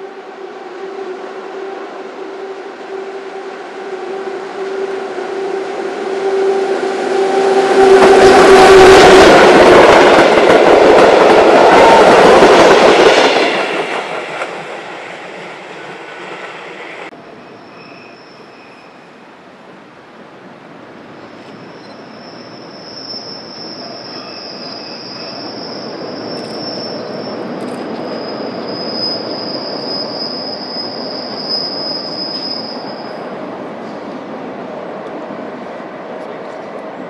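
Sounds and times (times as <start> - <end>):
distant train: 0.0 - 37.0
train passing: 0.0 - 37.0.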